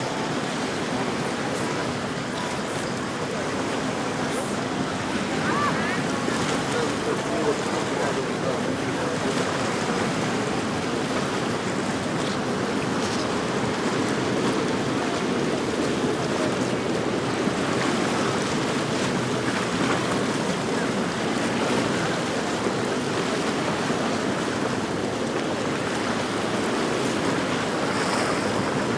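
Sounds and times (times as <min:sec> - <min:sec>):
waves and churning water: 0:00.0 - 0:28.9.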